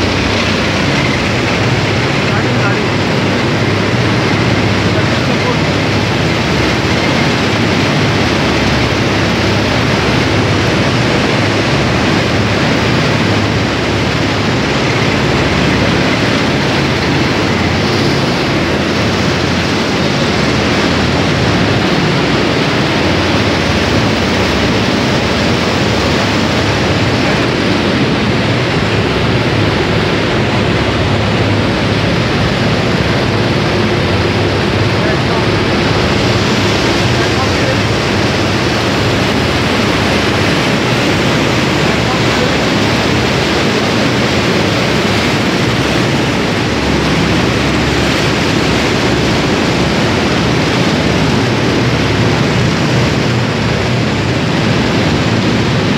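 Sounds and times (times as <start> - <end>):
machinery running: 0.0 - 55.9.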